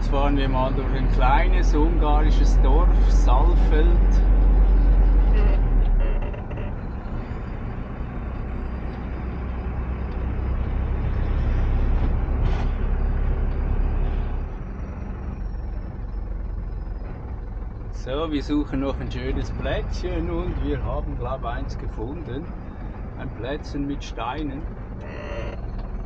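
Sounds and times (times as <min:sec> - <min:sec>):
diesel truck driving slowly: 0:00.0 - 0:26.0.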